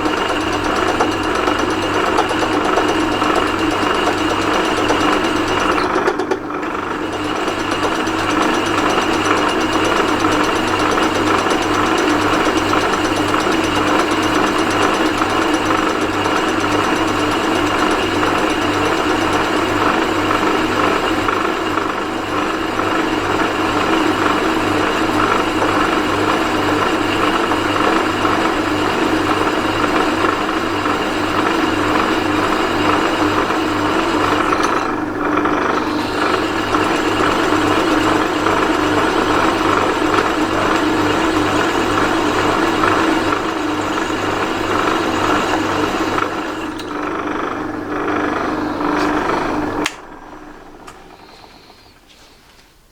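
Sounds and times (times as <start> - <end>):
metal lathe humming: 0.0 - 52.3.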